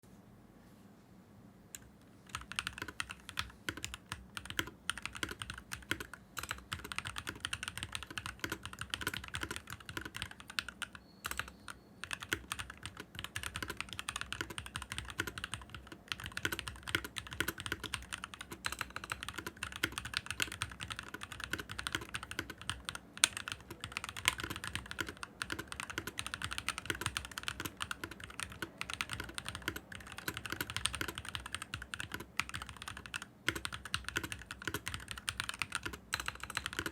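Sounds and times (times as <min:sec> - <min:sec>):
mechanical keyboard typing: 0:01.8 - 0:36.9.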